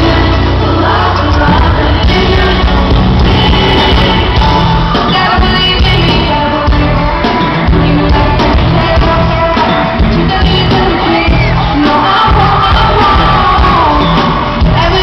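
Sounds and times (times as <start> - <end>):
loud amplified band: 0.0 - 15.0.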